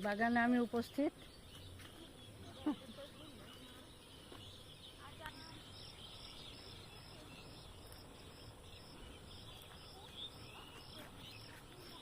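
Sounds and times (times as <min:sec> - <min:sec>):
insect chirping steadily: 0:00.0 - 0:12.0.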